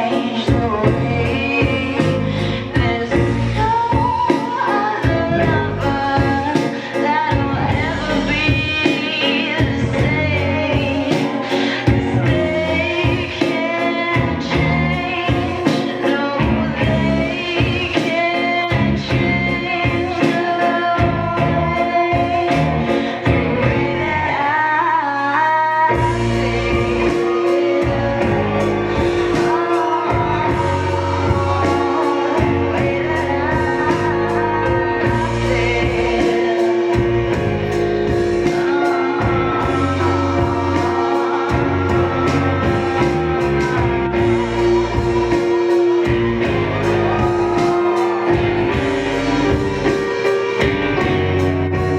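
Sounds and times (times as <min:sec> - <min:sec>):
full band with steady beat: 0:00.0 - 0:51.9
guitar: 0:00.0 - 0:51.9
person singing: 0:00.0 - 0:51.9.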